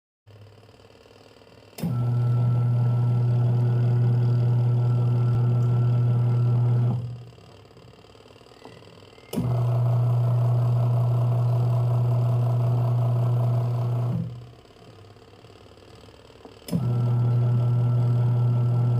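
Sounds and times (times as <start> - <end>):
washing machine motor humming: 0.4 - 18.9.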